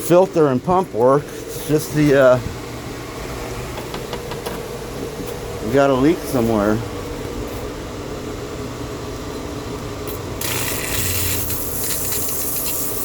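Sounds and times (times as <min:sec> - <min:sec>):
pool pump motor humming: 0:00.0 - 0:13.0.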